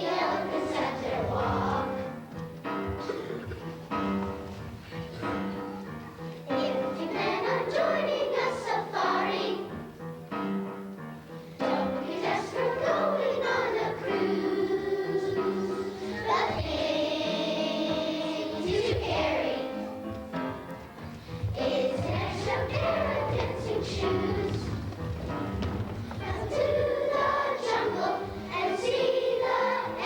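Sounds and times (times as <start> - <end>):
children's choir singing: 0.0 - 10.6, 11.2 - 30.0
instrumental accompaniment: 0.0 - 30.0.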